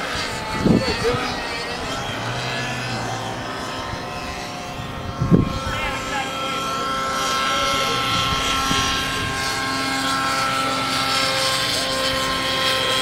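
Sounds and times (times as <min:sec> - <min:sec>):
rc helicopter high whine: 0:00.0 - 0:13.0.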